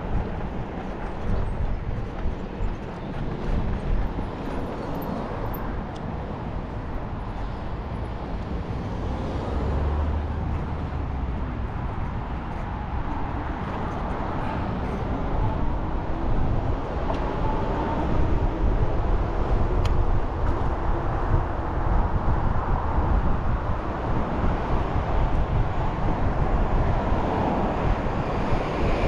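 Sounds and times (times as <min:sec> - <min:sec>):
bicycle tyre and road rumble: 0:00.0 - 0:29.0
wind rushing over microphone: 0:00.0 - 0:29.0.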